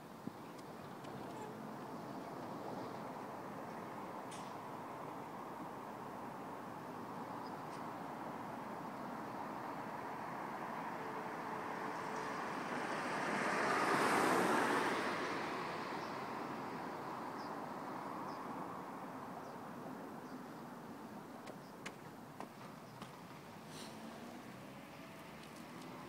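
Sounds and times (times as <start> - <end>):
car passing: 0.6 - 26.0.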